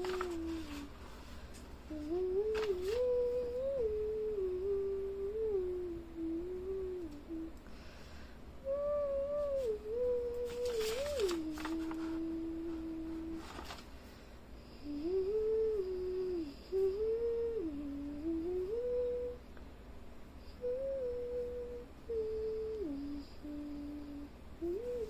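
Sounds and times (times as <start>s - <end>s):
person humming a slow tune: 0.0s - 7.8s, 8.6s - 13.8s, 14.7s - 19.5s, 20.4s - 25.0s.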